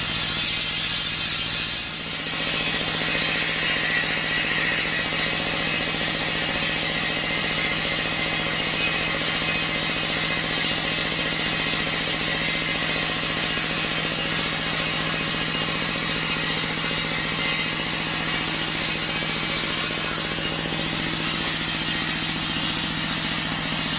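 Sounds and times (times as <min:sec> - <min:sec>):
log saw engine running: 0:00.0 - 0:23.9.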